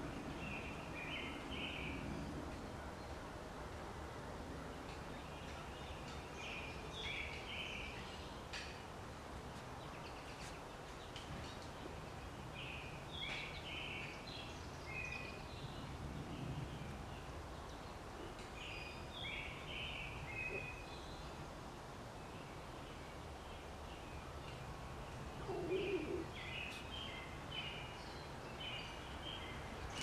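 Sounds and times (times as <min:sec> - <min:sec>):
low outdoor background noise: 0:00.0 - 0:30.0.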